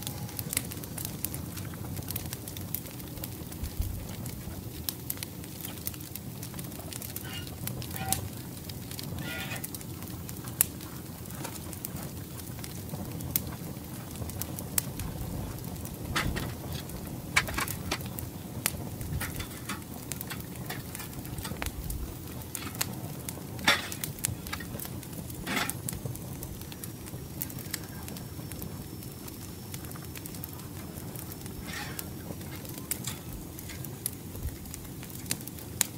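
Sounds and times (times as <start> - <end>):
charcoal fire crackling and popping: 0.0 - 35.9.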